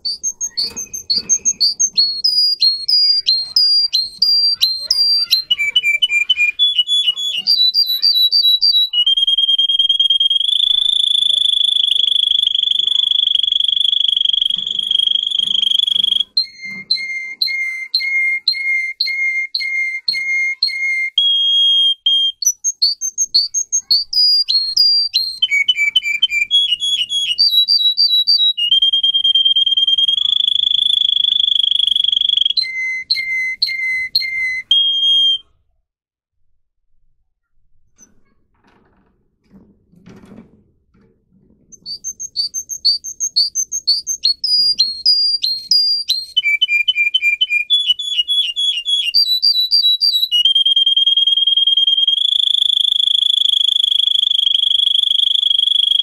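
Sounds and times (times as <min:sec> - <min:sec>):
canary singing: 0:00.0 - 0:35.6, 0:41.7 - 0:56.0.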